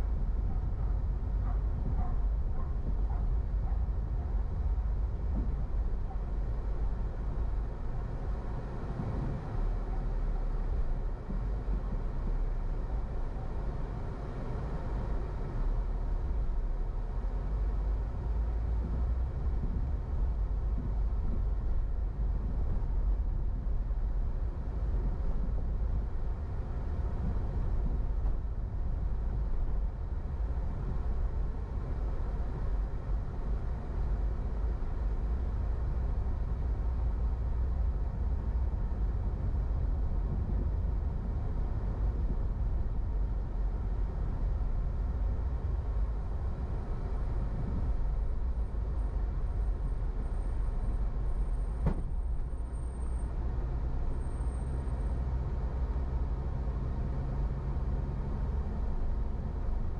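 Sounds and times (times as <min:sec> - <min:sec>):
car driving slowly: 0:00.0 - 0:59.9.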